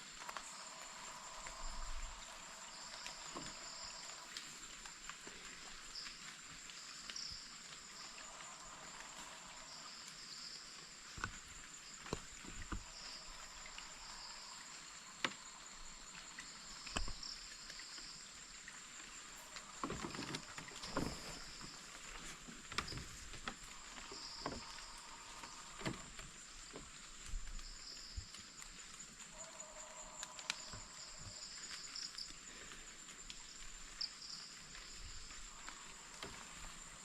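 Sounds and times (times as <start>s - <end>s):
night insects buzzing and chirping: 0.0s - 37.0s.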